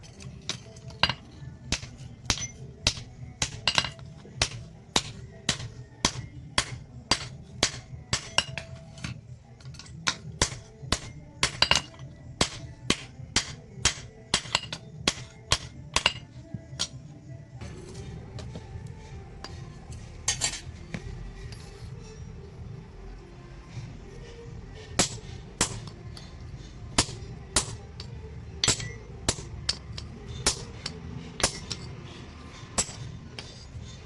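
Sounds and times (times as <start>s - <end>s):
hammer striking steel on anvil: 0.0s - 17.0s, 19.4s - 21.1s, 24.8s - 33.9s.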